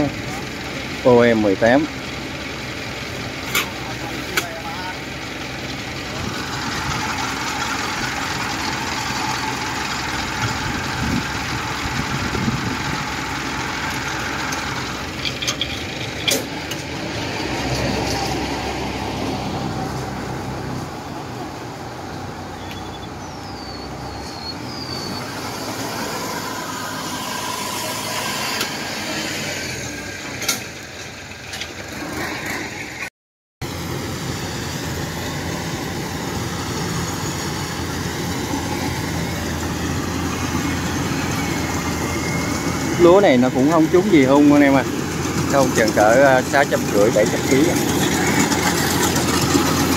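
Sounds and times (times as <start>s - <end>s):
farm machine engines running: 0.0s - 21.8s, 24.2s - 49.9s.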